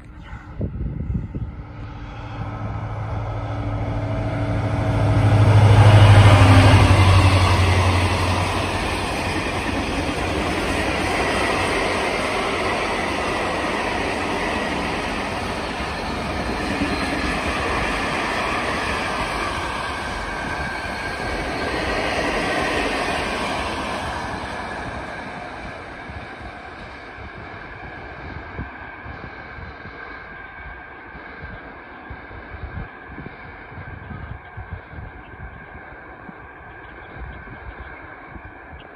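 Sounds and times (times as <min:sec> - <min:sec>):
locomotive engine drone: 0:00.0 - 0:38.9.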